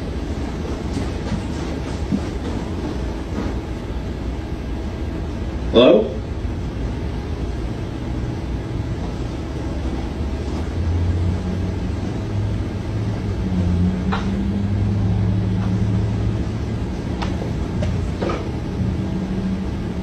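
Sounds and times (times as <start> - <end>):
low rumbling hum: 0.0 - 20.0.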